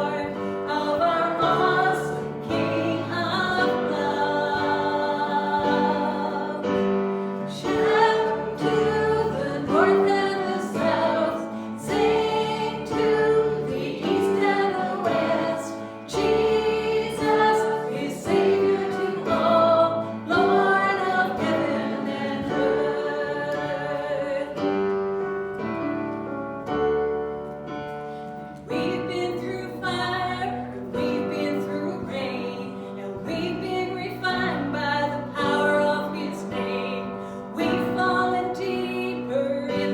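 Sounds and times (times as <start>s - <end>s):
group singing a hymn: 0.0s - 25.0s, 29.0s - 39.9s
piano: 0.0s - 39.9s.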